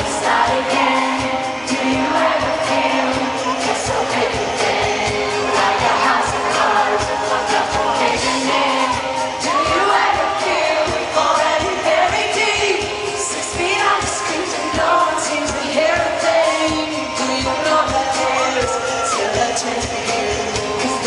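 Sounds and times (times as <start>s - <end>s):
live pop band: 0.0s - 21.0s
woman singing: 0.0s - 21.0s.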